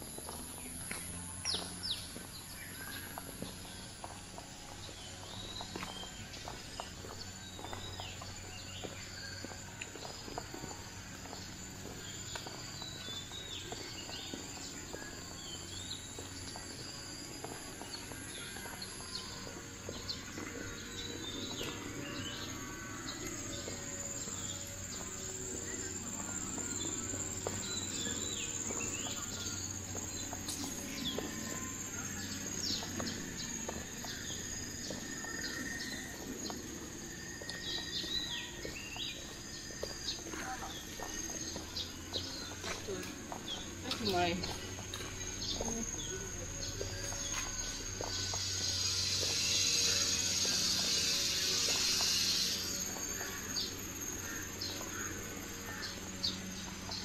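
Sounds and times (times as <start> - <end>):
insects droning: 0.0 - 57.0
low background hum: 0.0 - 57.0
birds chirping and calling: 0.2 - 57.0.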